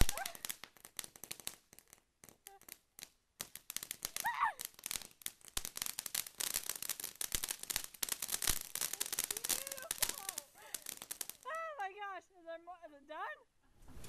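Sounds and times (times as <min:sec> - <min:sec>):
firework spraying sparks: 0:00.0 - 0:12.1
firework crackling: 0:00.0 - 0:13.1.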